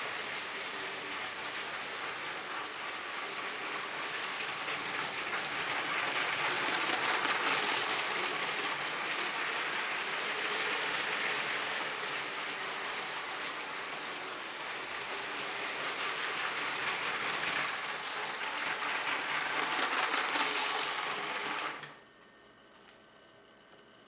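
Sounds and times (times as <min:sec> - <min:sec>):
toy train motor whirring: 0:00.2 - 0:21.9.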